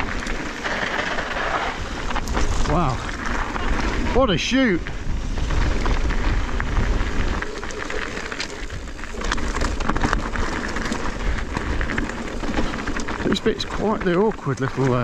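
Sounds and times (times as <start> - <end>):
bike clicks and rattles: 0.0 - 15.0
tyres crackling over stones: 0.0 - 15.0
wind buffeting microphone: 0.0 - 15.0.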